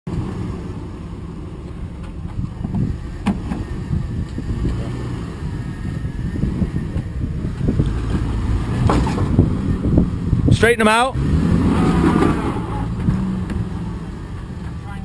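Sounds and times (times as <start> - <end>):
engine low rumble: 0.1 - 15.0.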